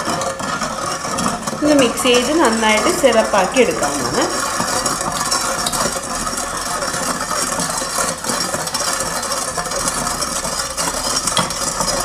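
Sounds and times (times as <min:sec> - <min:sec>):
ladle stirring in saucepan: 0:00.0 - 0:12.0.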